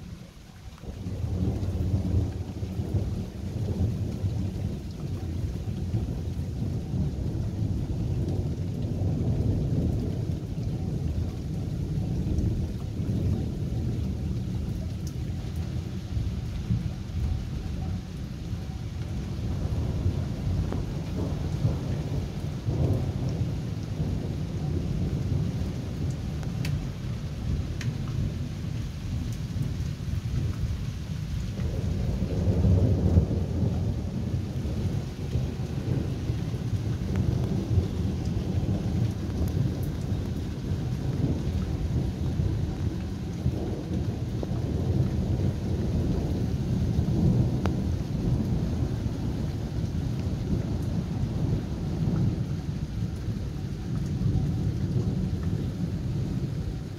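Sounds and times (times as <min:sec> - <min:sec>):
steady rain: 0:00.0 - 0:56.9
rolling thunder: 0:00.8 - 0:56.9.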